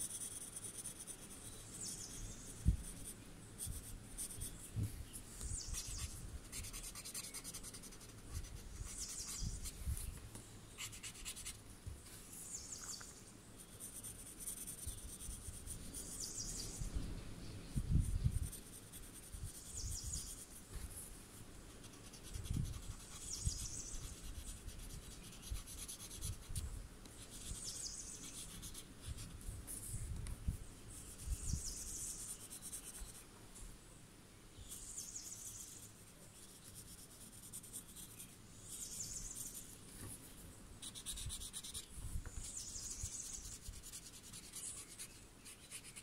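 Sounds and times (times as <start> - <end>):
pencil scratching strokes: 0.0 - 10.2, 10.8 - 13.0, 13.6 - 16.3, 18.0 - 21.1, 21.7 - 26.6, 27.2 - 30.0, 30.9 - 33.2, 34.7 - 46.0.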